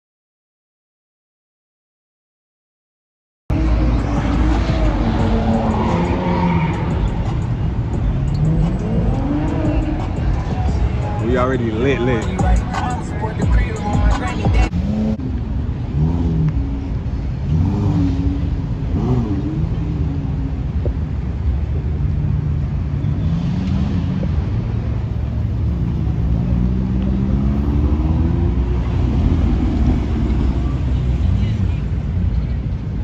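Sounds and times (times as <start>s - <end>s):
car engine revving: 3.5s - 32.3s
low engine rumble: 3.5s - 33.0s.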